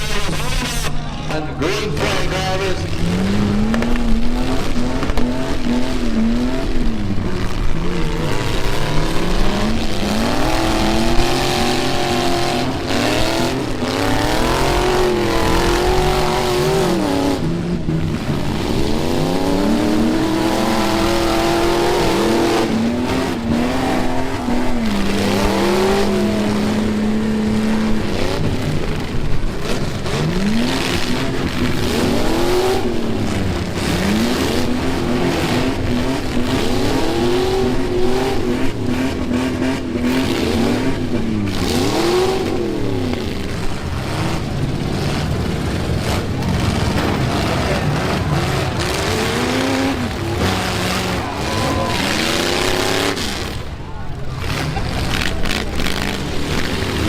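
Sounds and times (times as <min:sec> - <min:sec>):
pickup truck engines revving: 0:00.0 - 0:57.0.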